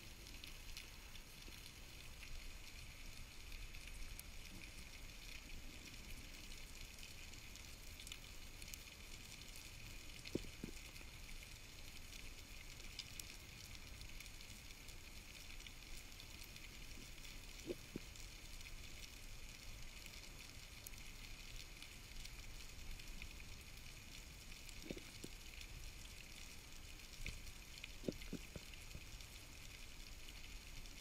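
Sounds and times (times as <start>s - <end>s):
underwater fizzing crackle: 0.0s - 31.0s.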